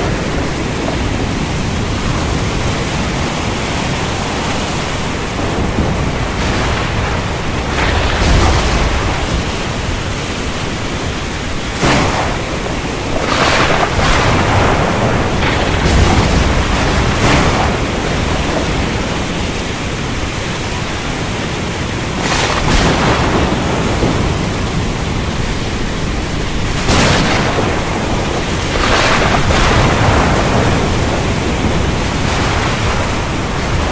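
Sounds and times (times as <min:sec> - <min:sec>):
rain falling: 0:00.0 - 0:33.9
surf: 0:00.0 - 0:33.9.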